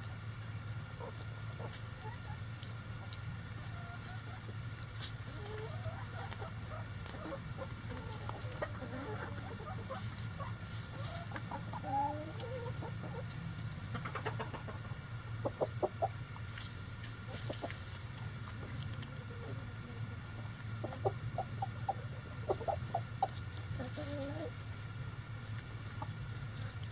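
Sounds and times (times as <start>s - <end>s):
steady low hum: 0.0s - 26.9s
hens clucking: 0.8s - 26.9s.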